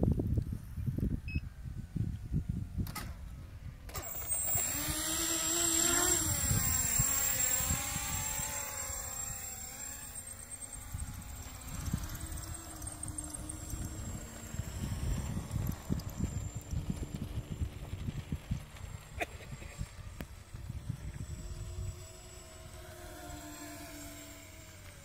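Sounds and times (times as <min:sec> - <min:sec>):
wind buffeting microphone: 0:00.0 - 0:23.4
model aircraft motors whining: 0:00.4 - 0:25.0.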